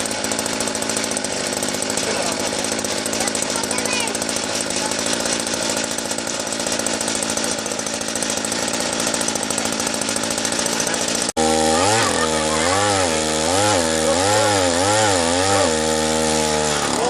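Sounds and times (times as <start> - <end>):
tiller engine running: 0.0 - 17.0.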